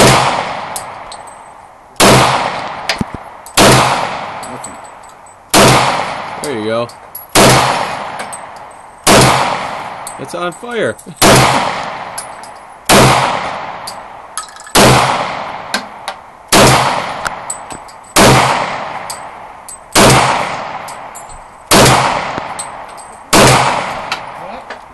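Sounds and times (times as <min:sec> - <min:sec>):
handgun shots echoing: 0:02.0 - 0:04.9, 0:05.5 - 0:10.2, 0:11.2 - 0:19.3, 0:19.9 - 0:24.4.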